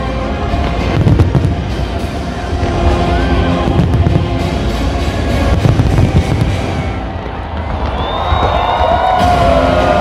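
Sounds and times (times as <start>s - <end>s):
loud music: 0.0s - 10.0s
fireworks bursting: 0.3s - 9.2s.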